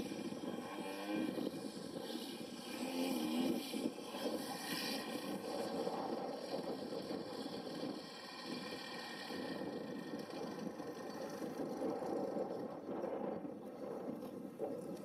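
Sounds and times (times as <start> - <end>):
small two-stroke engine idling: 0.0 - 15.0.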